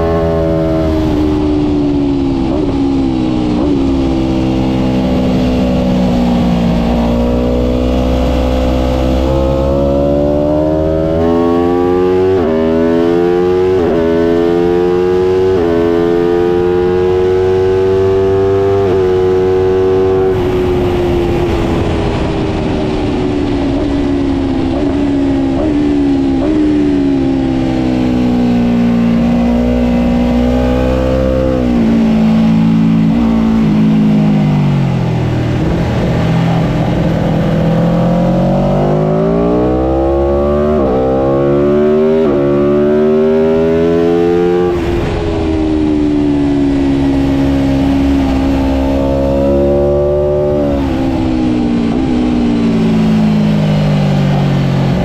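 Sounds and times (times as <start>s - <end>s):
motorcycle engine racing: 0.0s - 55.0s.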